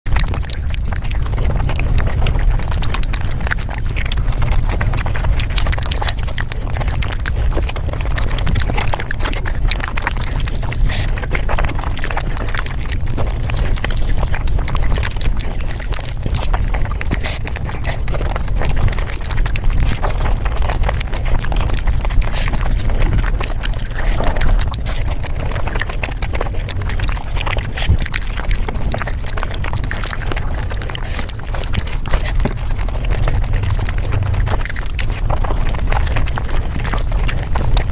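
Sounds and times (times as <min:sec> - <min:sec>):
rapid chewing and crunching: 0:00.0 - 0:37.9
steady low rumble: 0:00.1 - 0:37.9.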